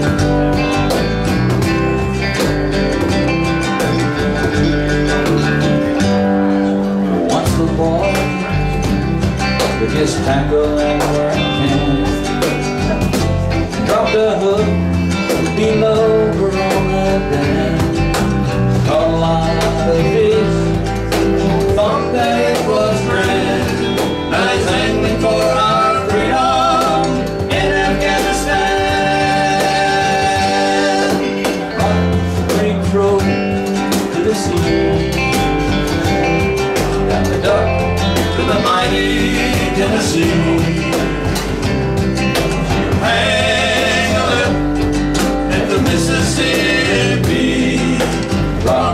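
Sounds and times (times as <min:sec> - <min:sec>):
acoustic guitar: 0:00.0 - 0:48.9
cajon: 0:00.0 - 0:48.9
electric bass: 0:00.0 - 0:48.9
electric guitar: 0:00.0 - 0:48.9.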